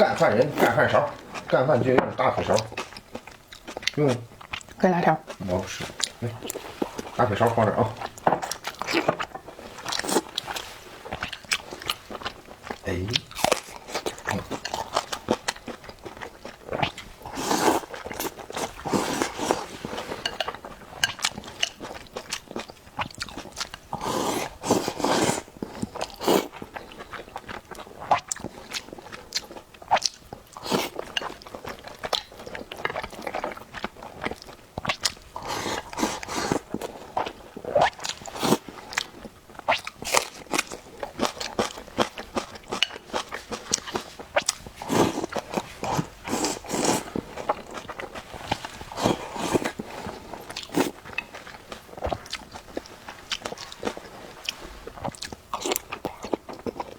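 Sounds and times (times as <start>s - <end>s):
person chewing and biting: 8.0s - 56.9s.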